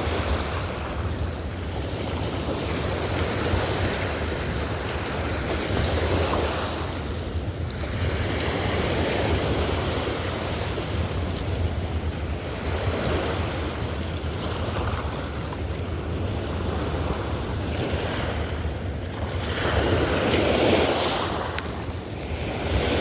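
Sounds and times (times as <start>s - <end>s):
fast river current rushing: 0.0s - 23.0s
wind buffeting microphone: 0.0s - 23.0s.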